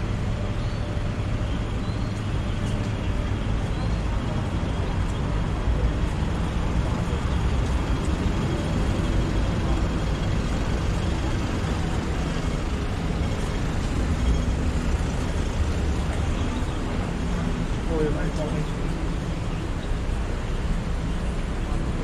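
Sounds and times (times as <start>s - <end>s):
rumble of buses and cars: 0.0s - 22.0s.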